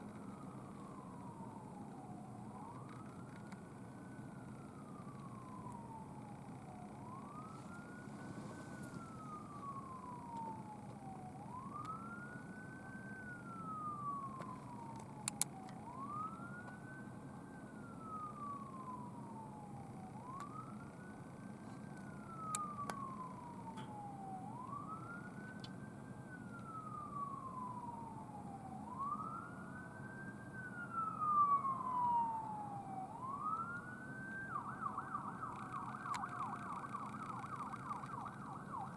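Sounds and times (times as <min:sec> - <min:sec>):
ambulance siren wailing: 0:00.0 - 0:38.9.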